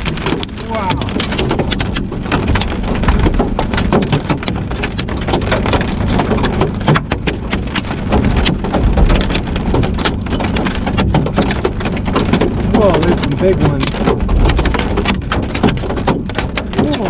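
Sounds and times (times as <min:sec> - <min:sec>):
low rumble: 0:00.0 - 0:17.0
rain and hail on a vehicle: 0:00.0 - 0:17.0.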